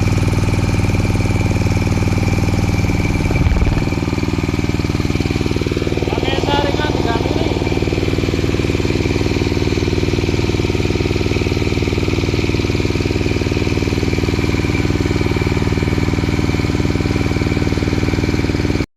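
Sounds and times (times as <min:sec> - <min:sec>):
machine engine running steadily: 0:00.0 - 0:18.9.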